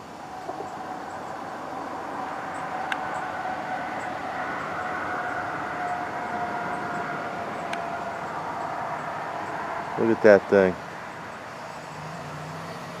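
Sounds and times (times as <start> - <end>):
engine drone: 0.0 - 13.0
faint high whine: 0.0 - 13.0.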